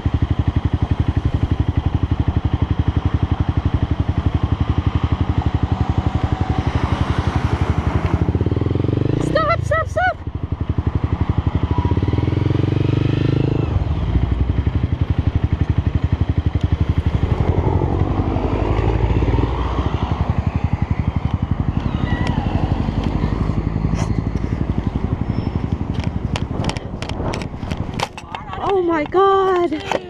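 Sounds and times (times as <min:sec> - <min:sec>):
motorcycle engine running: 0:00.0 - 0:29.8.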